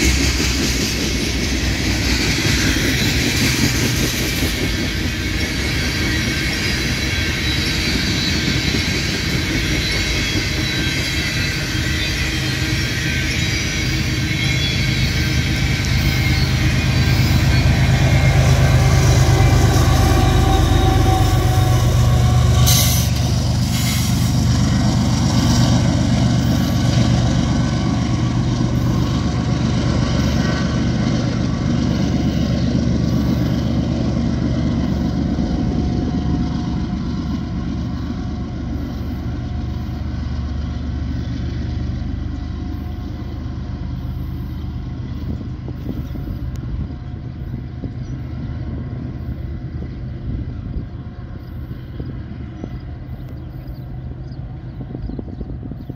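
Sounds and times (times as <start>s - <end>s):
diesel locomotive drone: 0.0s - 55.9s
train wheels rumbling on rails: 0.0s - 55.9s.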